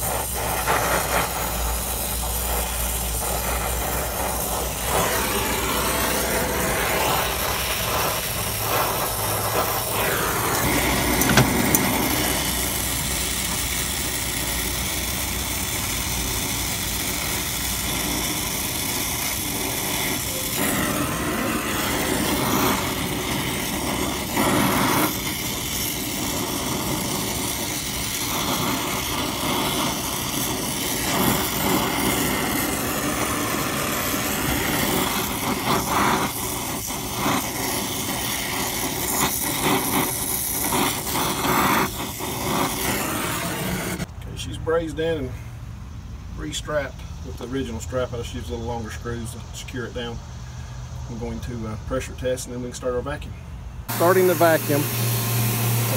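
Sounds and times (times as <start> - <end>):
torch flame hissing: 0.0 - 44.1, 53.8 - 55.9
mechanical hum: 0.0 - 55.9.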